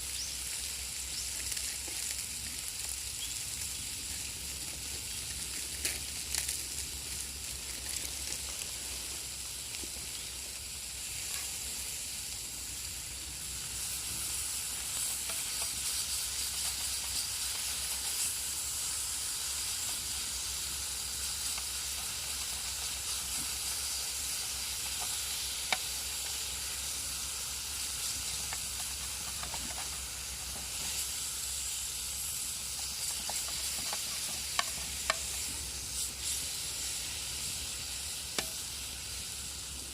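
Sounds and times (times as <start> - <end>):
steak sizzling in a frying pan: 0.0 - 39.9.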